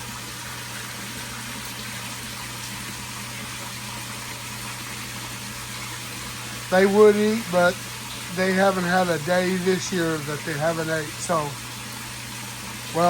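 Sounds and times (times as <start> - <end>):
pond pump humming: 0.0 - 13.0
pond water running: 0.0 - 13.0.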